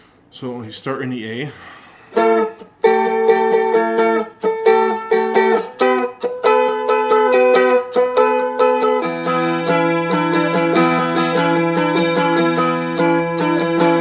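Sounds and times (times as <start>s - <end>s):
stringed instrument strummed: 2.1s - 14.0s.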